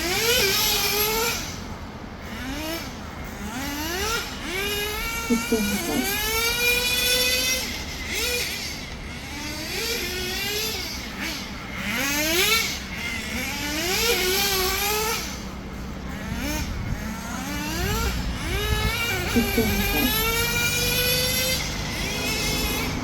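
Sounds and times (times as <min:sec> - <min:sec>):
small nitro engine revving: 0:00.0 - 0:23.0.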